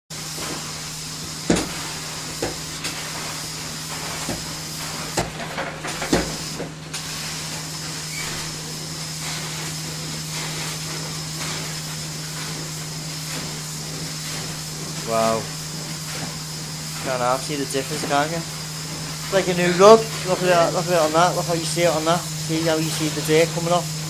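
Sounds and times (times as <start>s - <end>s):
machine hum: 0.1s - 24.0s
cleaning wand hissing with suction: 0.2s - 5.3s, 6.0s - 24.0s.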